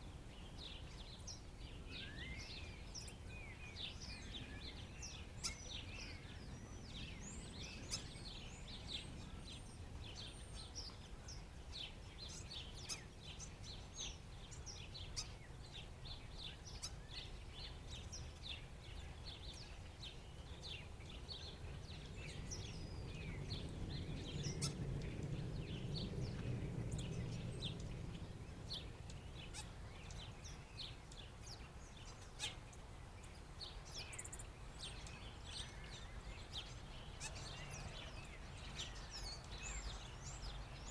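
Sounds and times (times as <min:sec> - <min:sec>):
flock of birds chirping: 0:00.0 - 0:40.9
low background noise: 0:00.0 - 0:40.9.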